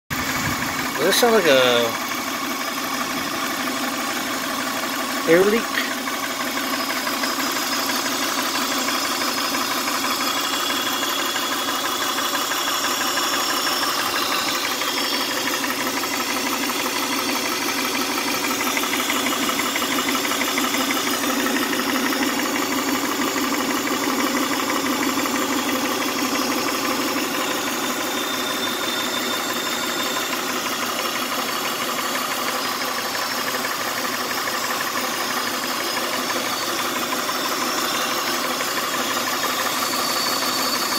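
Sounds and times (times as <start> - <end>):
car engine idling: 0.1 - 40.9.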